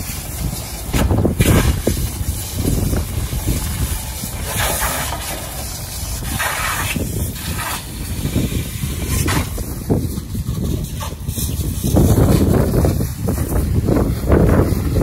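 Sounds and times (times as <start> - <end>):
pressure washer spraying water: 0.0 - 15.0
wind rumble on microphone: 0.0 - 15.0.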